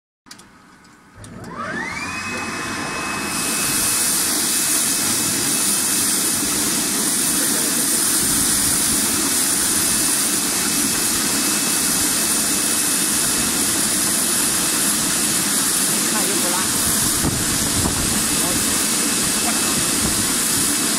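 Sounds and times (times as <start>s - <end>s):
electric motor whining: 1.2s - 15.1s, 15.8s - 20.9s
water jetting and bubbling: 2.6s - 20.9s.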